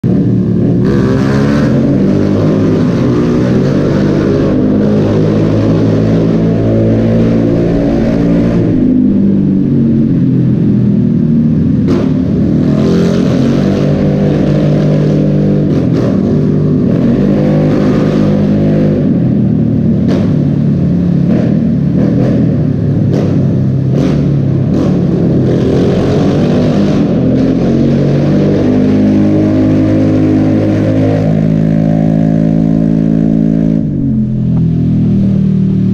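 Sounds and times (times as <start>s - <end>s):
motorbike engines revving in tunnel: 0.0s - 35.9s.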